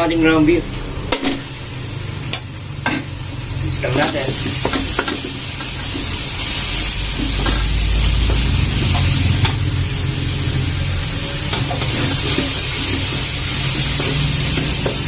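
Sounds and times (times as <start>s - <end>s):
meat sizzling in a wok: 0.0s - 15.0s.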